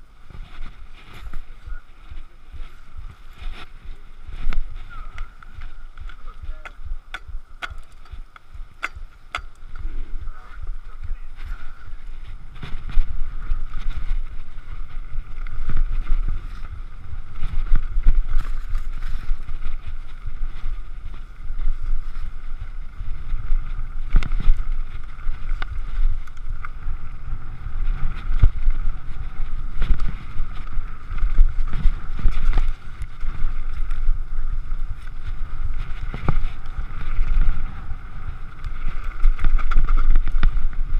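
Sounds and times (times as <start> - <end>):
bike tyres rumbling on gravel: 0.0 - 40.9
wind buffeting microphone: 0.0 - 40.9
bike clicks: 0.3 - 40.9
bike rattling and knocking: 2.6 - 40.9.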